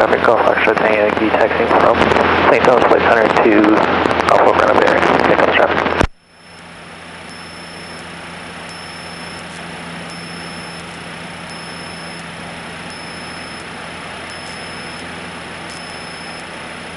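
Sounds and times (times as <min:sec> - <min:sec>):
plane engine and propeller droning: 0:00.0 - 0:16.9.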